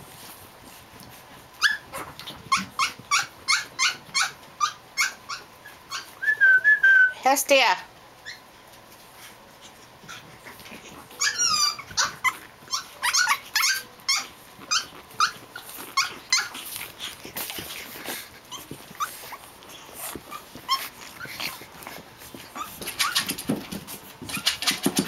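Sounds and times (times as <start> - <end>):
puppies yipping and whining: 0.7 - 7.1, 8.2 - 25.0.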